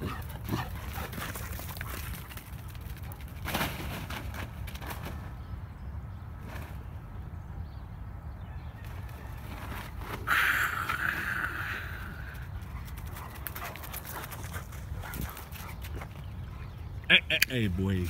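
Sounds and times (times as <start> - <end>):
dogs' paws and footsteps on dirt: 0.0 - 7.4, 8.6 - 17.1.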